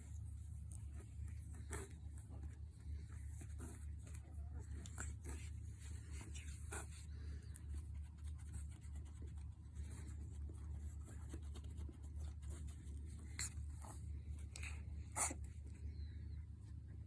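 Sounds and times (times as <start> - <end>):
puppy scratching and rustling: 0.0 - 15.8.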